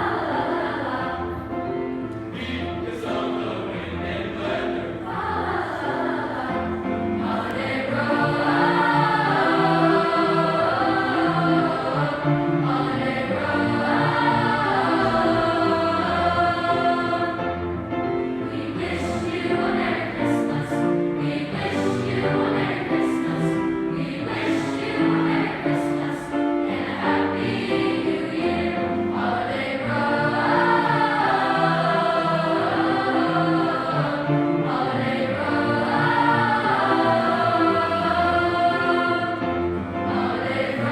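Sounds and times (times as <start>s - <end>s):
choir singing carols: 0.0s - 40.9s.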